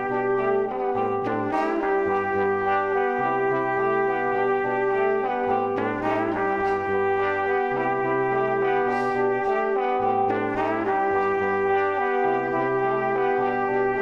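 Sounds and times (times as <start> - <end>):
background music with bass line: 0.0 - 14.0.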